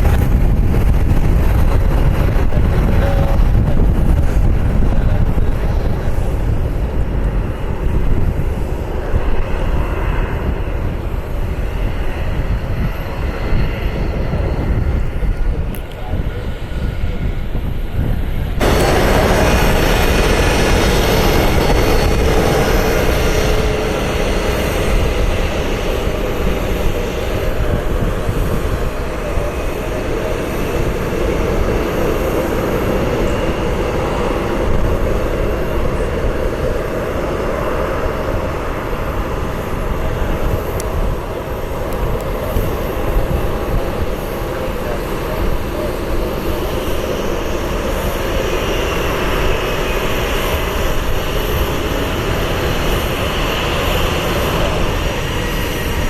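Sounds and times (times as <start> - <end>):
faint engine whine: 0.0 - 56.0
jet airliner engines running: 0.0 - 56.0.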